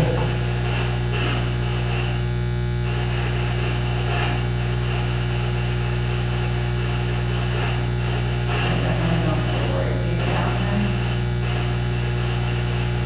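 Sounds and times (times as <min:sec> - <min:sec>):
buzzy mains hum: 0:00.0 - 0:13.0.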